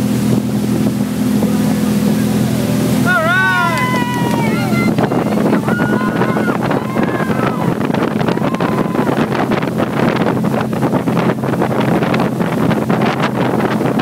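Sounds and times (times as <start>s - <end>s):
motorboat engine running: 0.0s - 14.0s
water rushing in wake: 0.0s - 14.0s
wind buffeting microphone: 0.0s - 14.0s.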